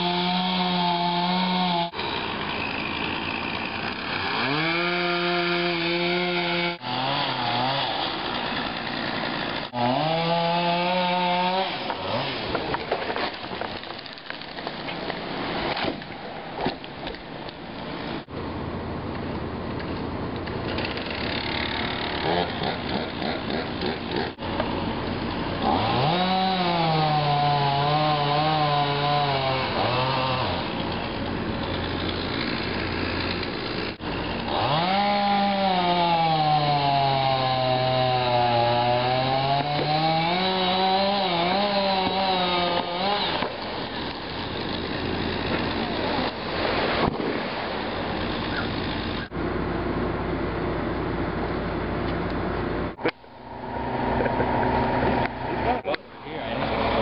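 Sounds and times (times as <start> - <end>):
chainsaw cutting tree trunk: 0.0 - 18.3, 20.6 - 49.4, 53.6 - 57.0.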